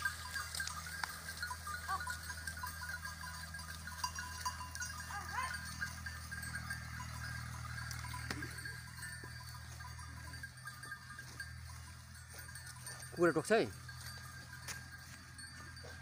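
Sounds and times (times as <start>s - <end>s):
small bells jingling: 0.0s - 16.0s.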